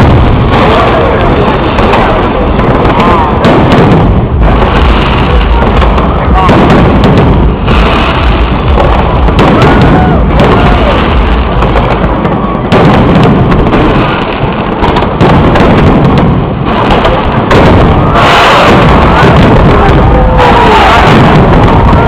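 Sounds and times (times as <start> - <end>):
fireworks booming: 0.0 - 22.0.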